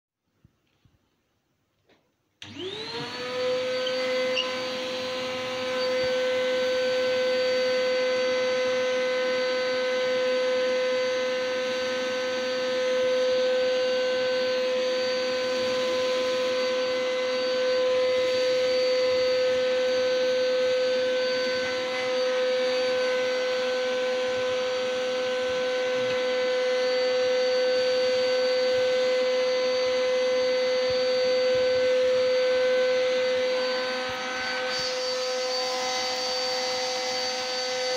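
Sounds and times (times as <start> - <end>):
vacuum cleaner motor whining: 2.4 - 37.9.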